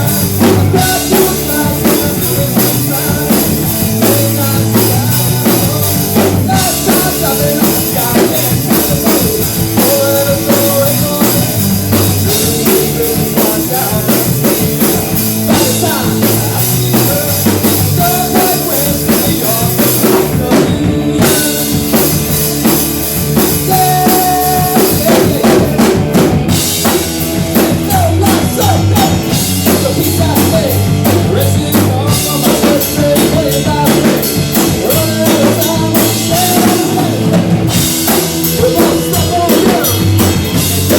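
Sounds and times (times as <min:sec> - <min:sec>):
drum kit beat: 0:00.0 - 0:40.9
live band music: 0:00.0 - 0:40.9.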